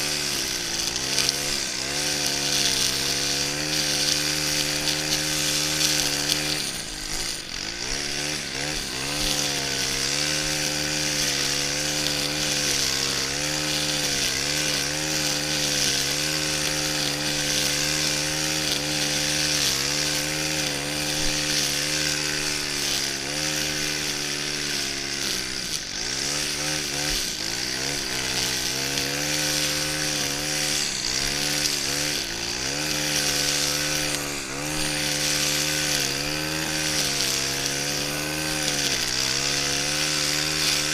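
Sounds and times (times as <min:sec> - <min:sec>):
brushcutter engine trimming grass: 0:00.0 - 0:40.9.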